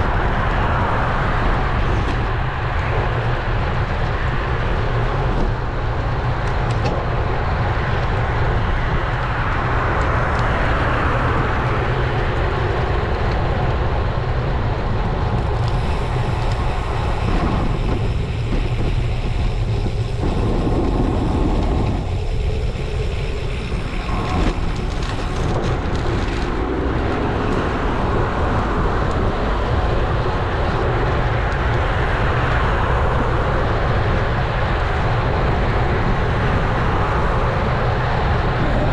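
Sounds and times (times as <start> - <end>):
road and traffic noise: 0.0 - 38.9
wind on microphone: 0.0 - 38.9.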